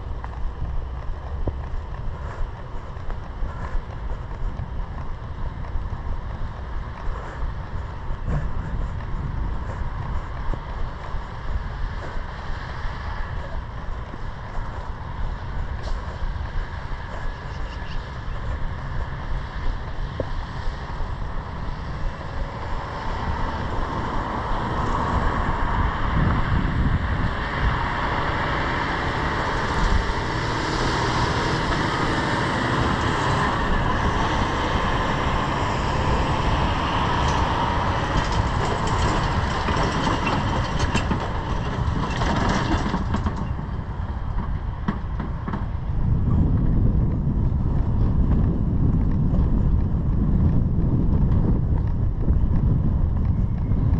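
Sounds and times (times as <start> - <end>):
motor vehicle noise: 0.0 - 53.9.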